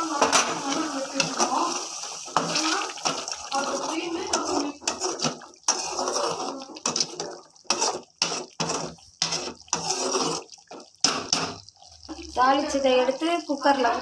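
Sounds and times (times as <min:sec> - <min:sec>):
ladle scraping metal pan: 0:00.0 - 0:11.6
ladle splashing liquid in pan: 0:00.0 - 0:12.2.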